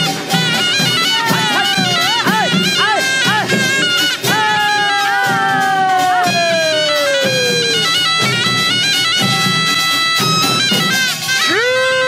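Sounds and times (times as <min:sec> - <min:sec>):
drum strokes: 0:00.0 - 0:12.0
reedy wind instrument melody: 0:00.0 - 0:12.0.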